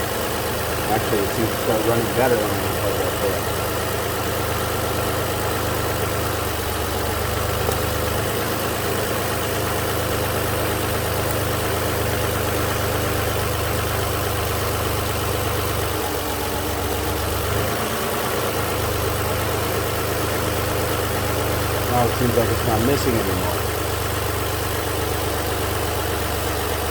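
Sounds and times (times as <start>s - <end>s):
car engine idling unevenly: 0.0s - 26.9s.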